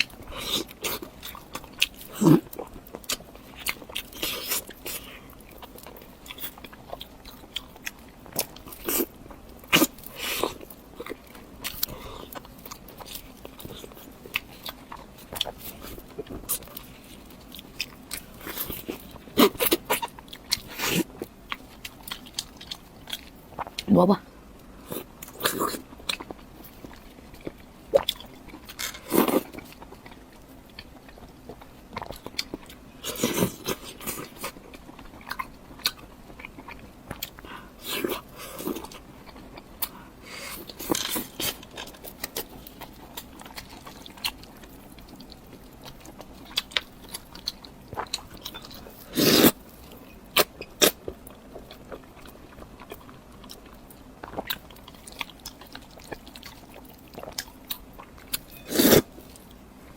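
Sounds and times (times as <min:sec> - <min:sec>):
biting and chewing: 0:00.0 - 0:23.9, 0:24.9 - 0:59.9.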